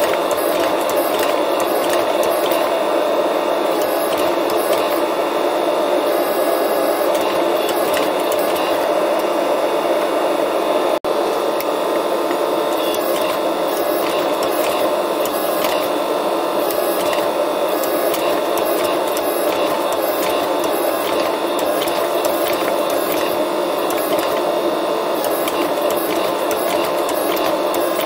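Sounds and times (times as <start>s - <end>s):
forging press running: 0.0s - 28.0s.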